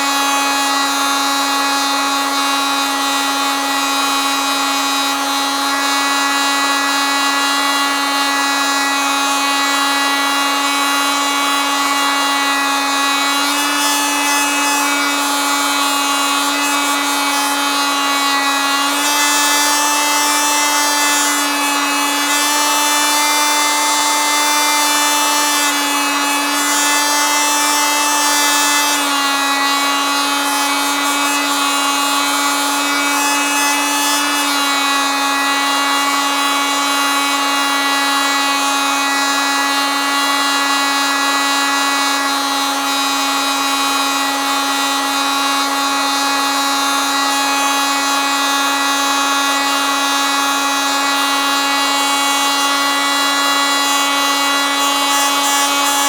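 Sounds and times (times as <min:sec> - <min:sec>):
oscillating multitool buzzing: 0:00.0 - 0:56.0.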